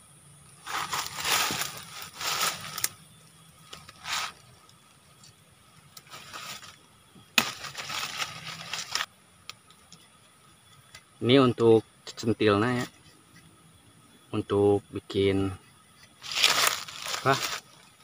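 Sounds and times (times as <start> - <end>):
dry leaves and twigs crackling: 0.4 - 13.8, 15.3 - 18.0.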